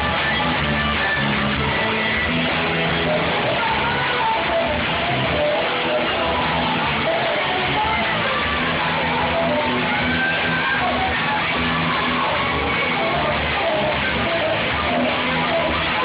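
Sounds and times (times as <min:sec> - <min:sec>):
drums: 0:00.0 - 0:16.0
electric guitar: 0:00.0 - 0:16.0.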